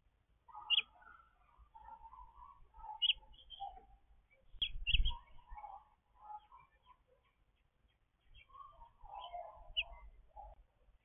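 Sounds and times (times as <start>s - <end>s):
small birds chirping: 0.5s - 11.0s.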